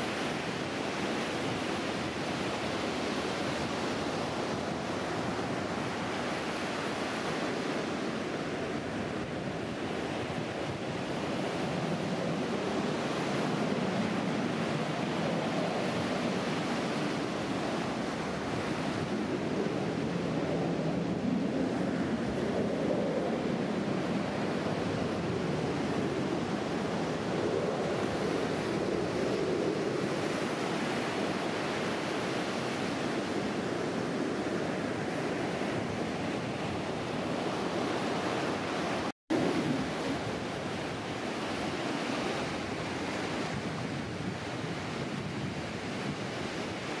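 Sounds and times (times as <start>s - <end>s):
waves breaking on beach: 0.0s - 47.0s.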